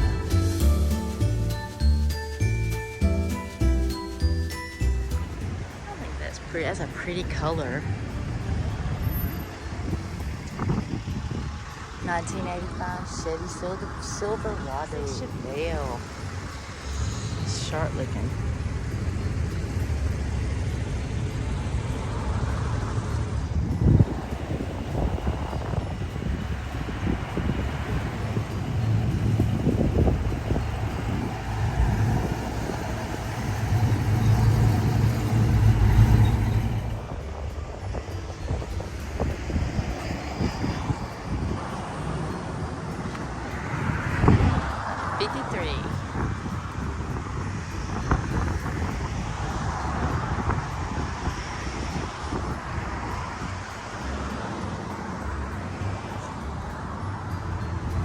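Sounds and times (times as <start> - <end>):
tyres rumbling on road: 0.0 - 58.0
vehicle engine passing by: 3.0 - 58.0.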